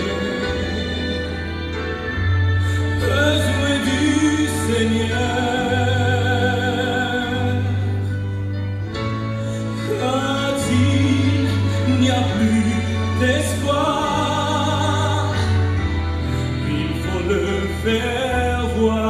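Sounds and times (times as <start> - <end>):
deep bass: 0.0 - 19.0
man singing with vibrato: 0.0 - 19.0.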